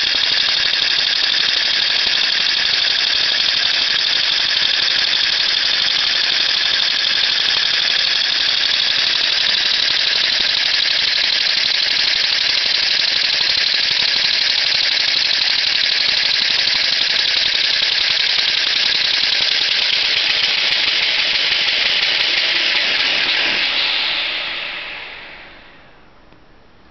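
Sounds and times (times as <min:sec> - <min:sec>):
vacuum cleaner whine: 0:00.0 - 0:26.0.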